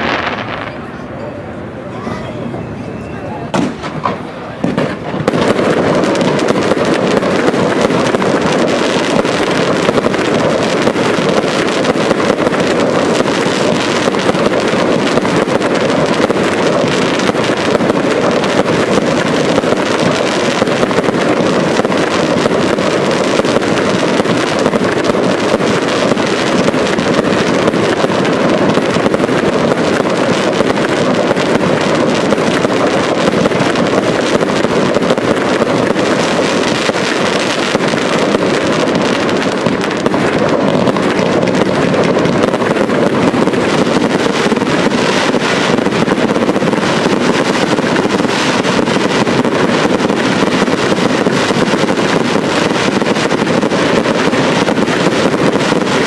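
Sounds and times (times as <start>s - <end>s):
fireworks crackling and bursting: 0.0s - 56.0s.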